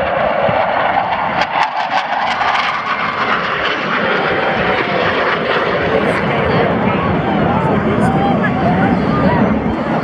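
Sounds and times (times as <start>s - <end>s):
jets roaring overhead: 0.0s - 10.0s.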